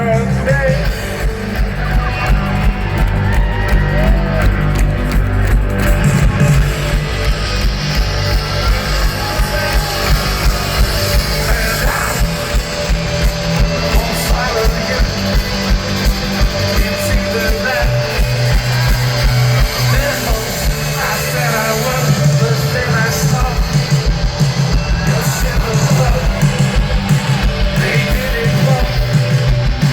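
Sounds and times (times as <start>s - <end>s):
live rock band: 0.0s - 29.9s.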